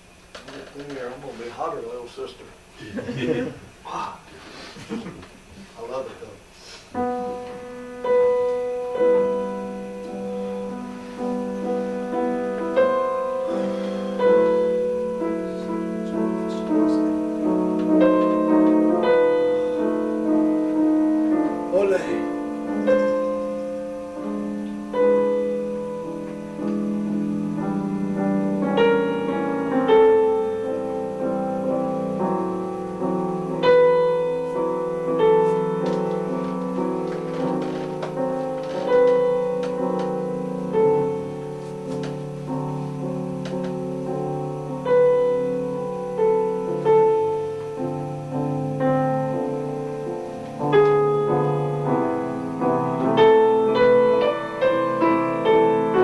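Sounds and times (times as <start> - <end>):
slow solo piano: 6.9 - 56.0.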